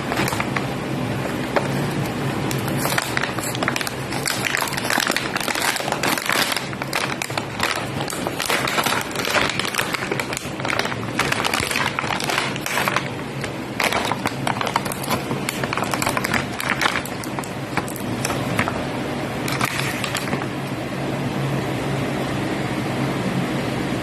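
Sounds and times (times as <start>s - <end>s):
packaging crinkling and clicking: 0.0s - 18.8s, 19.4s - 20.5s.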